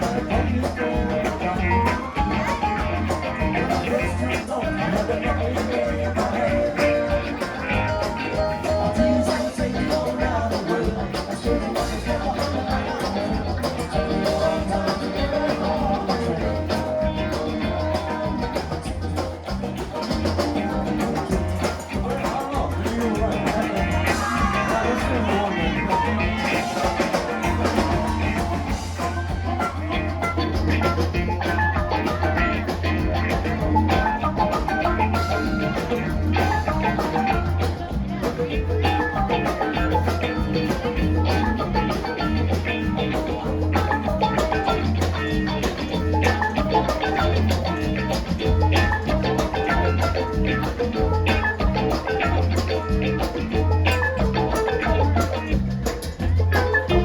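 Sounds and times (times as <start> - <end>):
live rock band playing: 0.0 - 57.0
pulsing bass line: 0.0 - 57.0.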